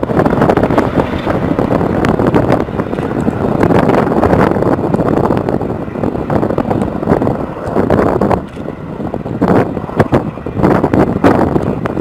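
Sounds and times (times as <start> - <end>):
helicopter flying past: 0.0 - 12.0
wind buffeting microphone: 0.0 - 12.0.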